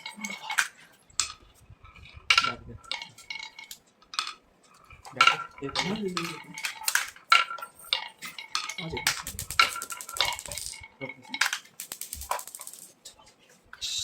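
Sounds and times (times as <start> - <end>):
small hard objects clinking: 0.0 - 13.2.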